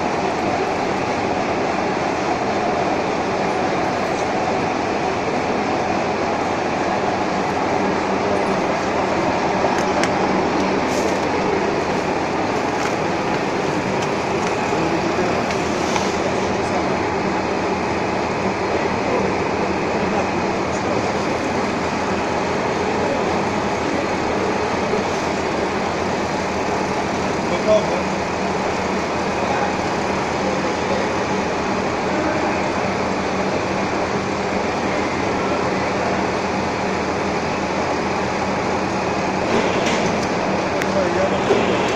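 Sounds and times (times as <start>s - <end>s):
lathe and shop machinery running: 0.0s - 41.9s.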